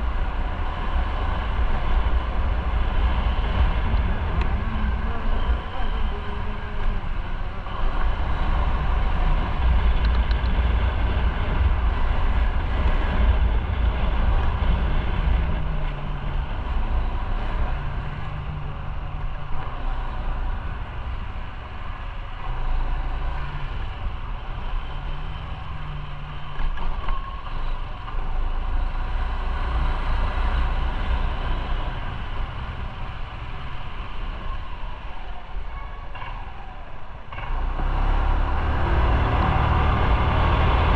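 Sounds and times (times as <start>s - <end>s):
road and wind rumble: 0.0s - 40.9s.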